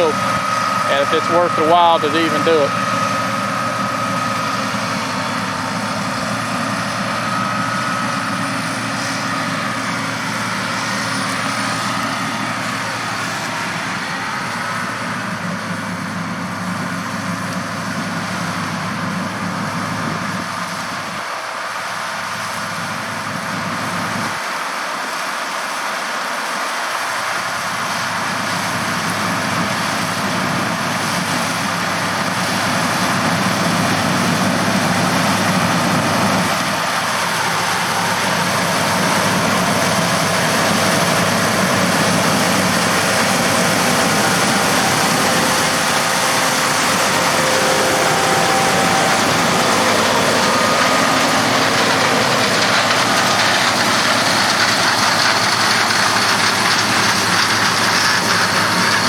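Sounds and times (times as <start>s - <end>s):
diesel farm machinery running: 0.0s - 25.8s, 26.5s - 59.0s.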